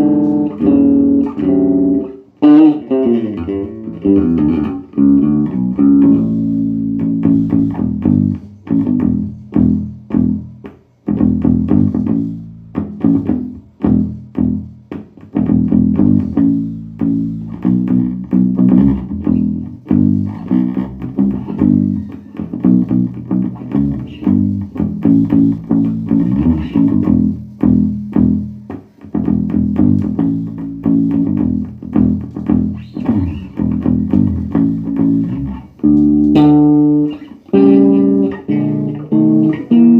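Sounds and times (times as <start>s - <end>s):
electric bass plucked notes: 0.0s - 39.9s.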